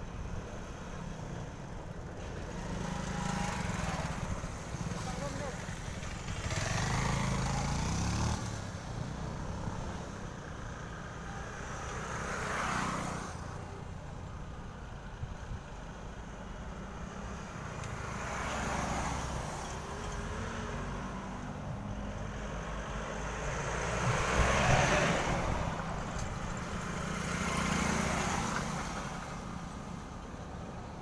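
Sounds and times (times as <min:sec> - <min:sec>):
trucks driving past: 0:00.0 - 0:31.0.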